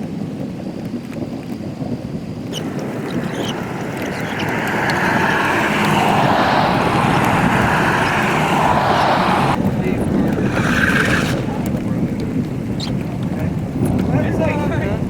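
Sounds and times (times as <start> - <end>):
storm wind on microphone: 0.0 - 15.0.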